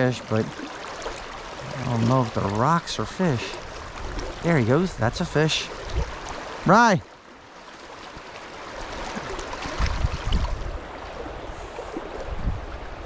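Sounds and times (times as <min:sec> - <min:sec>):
fast river current rushing: 0:00.0 - 0:13.0.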